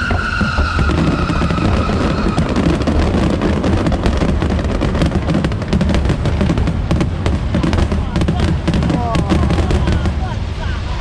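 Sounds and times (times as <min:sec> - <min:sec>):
fireworks crackling and booming: 0:00.0 - 0:11.0.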